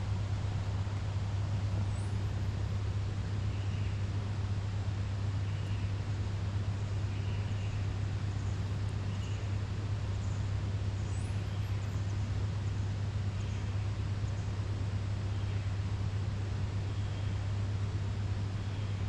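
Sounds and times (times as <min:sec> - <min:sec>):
low mechanical hum: 0:00.0 - 0:19.0
outdoor background haze: 0:00.0 - 0:19.0.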